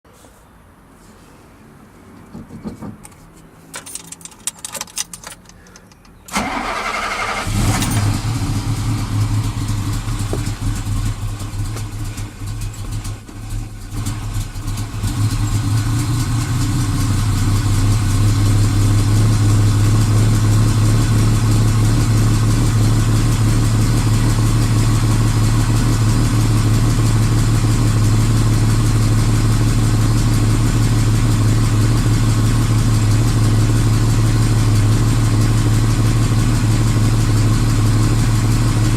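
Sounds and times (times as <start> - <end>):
car engine starting and idling: 2.3 - 38.9.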